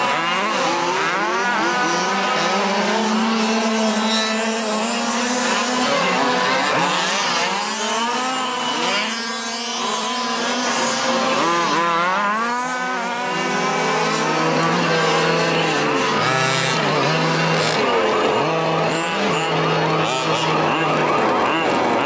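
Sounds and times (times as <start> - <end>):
small two-stroke engines buzzing: 0.0 - 22.0.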